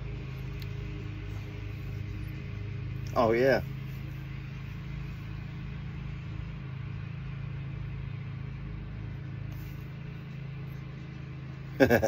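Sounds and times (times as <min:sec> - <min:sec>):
distant lawnmower engine: 0:00.0 - 0:12.0.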